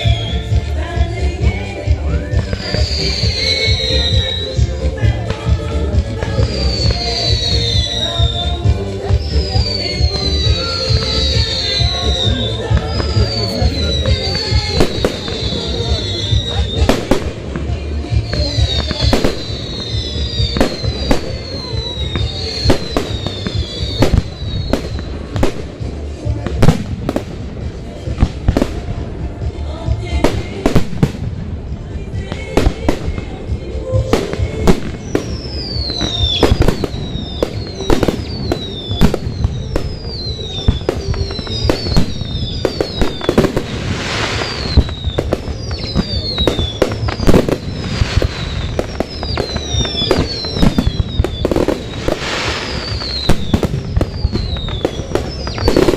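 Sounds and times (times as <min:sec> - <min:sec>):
falling firework whistles: 0:00.0 - 0:00.7, 0:01.8 - 0:25.6, 0:34.1 - 0:55.9.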